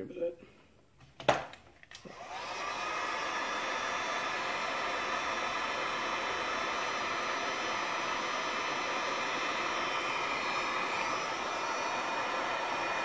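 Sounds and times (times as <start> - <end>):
heat gun air rushing: 2.0 - 13.0.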